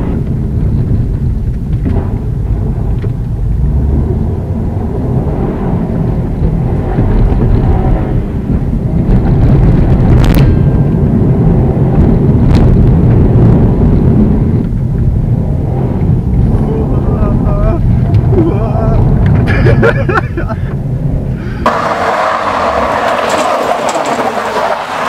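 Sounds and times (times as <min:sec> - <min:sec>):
car engine: 0:00.0 - 0:25.0
tyres rumbling on dirt: 0:00.0 - 0:25.0.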